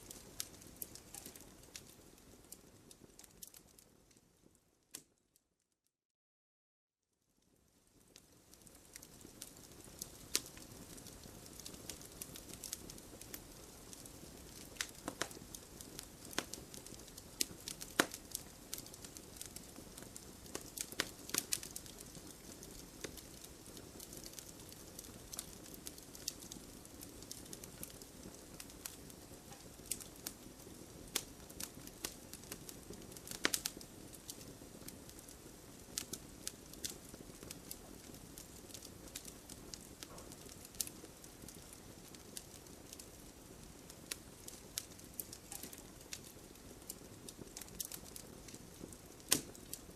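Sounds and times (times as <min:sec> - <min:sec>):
campfire crackles and pops: 0:00.0 - 0:05.2, 0:07.4 - 0:49.9.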